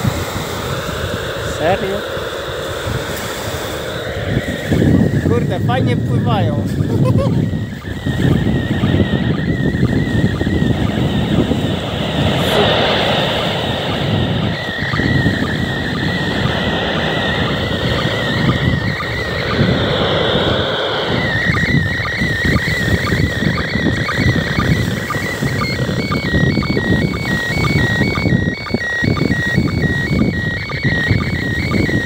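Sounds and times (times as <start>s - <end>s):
warbling radio picture signal tone: 0.0s - 32.0s
wind noise on microphone: 0.0s - 32.0s.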